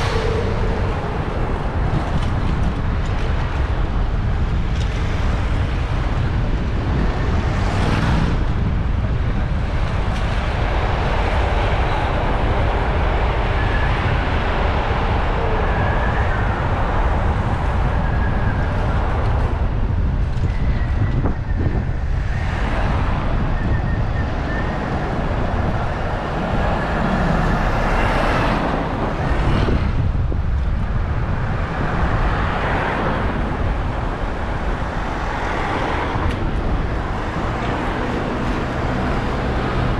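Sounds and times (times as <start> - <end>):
city road traffic: 0.0 - 39.9
vehicles passing: 0.0 - 39.9
wind rumble on microphone: 0.0 - 39.9.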